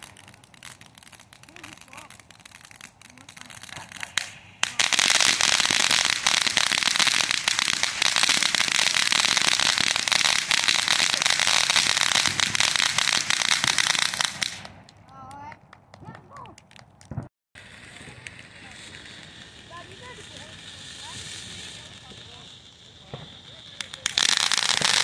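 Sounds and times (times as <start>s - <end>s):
firework fountain crackling hiss: 0.0s - 14.8s, 17.6s - 25.0s
firework pops: 0.0s - 25.0s.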